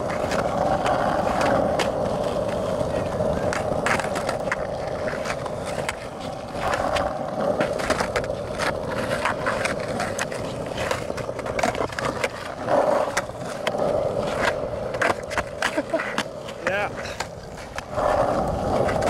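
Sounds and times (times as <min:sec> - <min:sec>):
skateboard clacking on ground: 0:00.0 - 0:19.0
skateboard wheels rolling on asphalt: 0:00.0 - 0:19.0.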